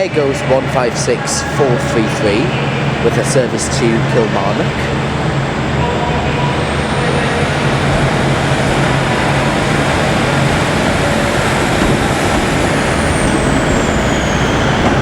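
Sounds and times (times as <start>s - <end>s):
diesel train engines running: 0.0s - 15.0s
thin high whine: 0.0s - 15.0s.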